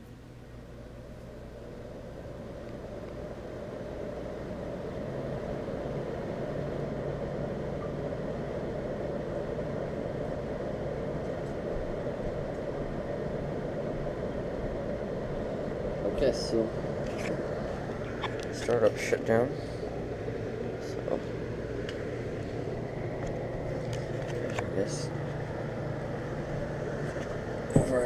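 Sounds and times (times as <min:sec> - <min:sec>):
air conditioner blower rushing air: 0:00.0 - 0:28.0
low hum: 0:00.0 - 0:28.0.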